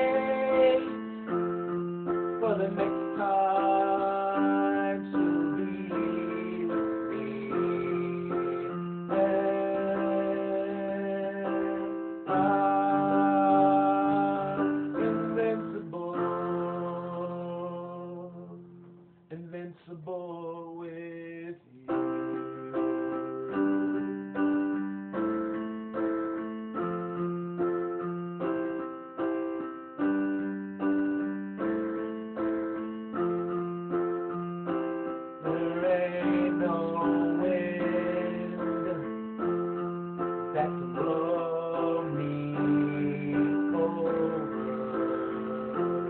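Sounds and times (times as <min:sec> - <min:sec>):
piano playing repeated chords: 0:00.0 - 0:46.0.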